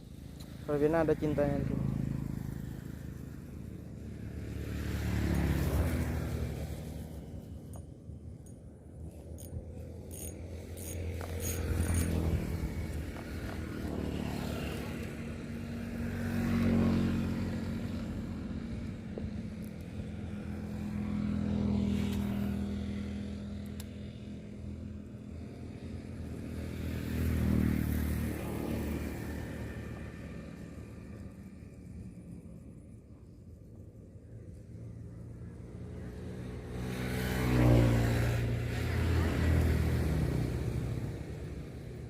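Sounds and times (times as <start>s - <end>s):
small engine humming: 0.0s - 42.0s.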